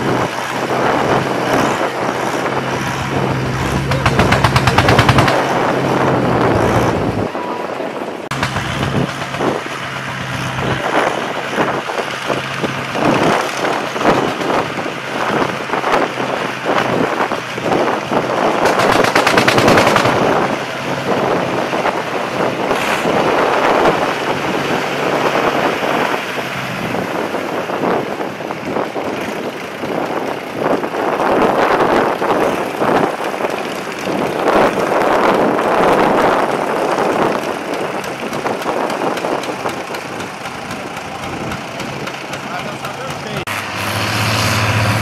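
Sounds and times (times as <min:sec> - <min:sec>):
tractor diesel engines under load: 0:00.0 - 0:45.0.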